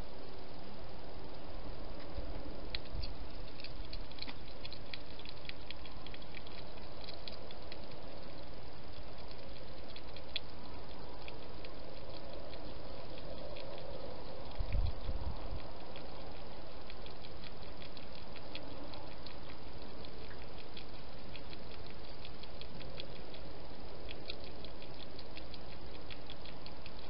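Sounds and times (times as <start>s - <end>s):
hedgehog eating wet clicks: 2.0s - 27.0s.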